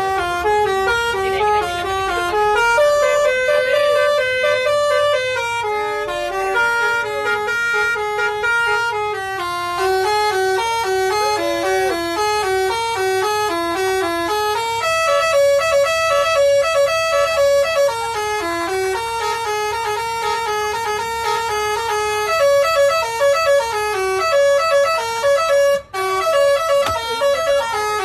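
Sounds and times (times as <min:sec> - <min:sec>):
bus musical horn playing a tune: 0:00.0 - 0:28.0.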